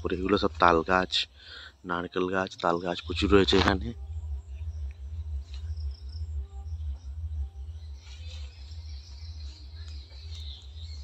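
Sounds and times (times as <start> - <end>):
low rumble on microphone: 0.0 - 1.7, 2.4 - 11.0
insects trilling: 0.0 - 11.0.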